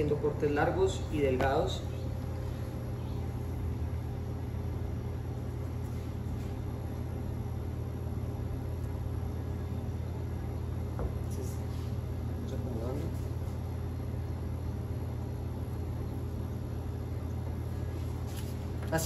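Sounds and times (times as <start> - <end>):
kitchen equipment humming: 0.0 - 19.0.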